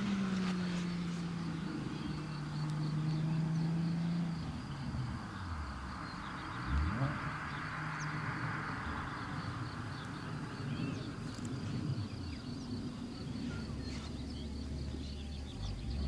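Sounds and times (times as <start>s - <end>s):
high insect trill: 0.0s - 16.0s
low outdoor rumble: 0.0s - 16.0s
bird chirps: 0.1s - 16.0s.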